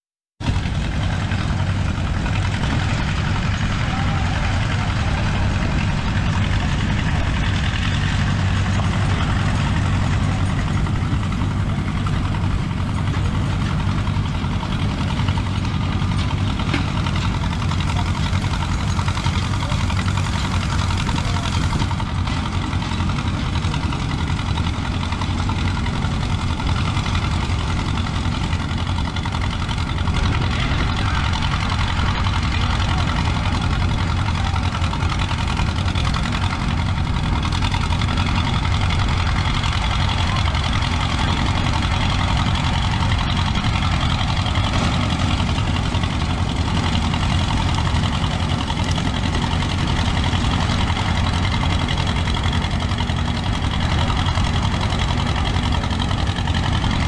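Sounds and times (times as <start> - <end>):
combine machinery noise: 0.4 - 57.0
tractor engine rumble: 0.4 - 57.0.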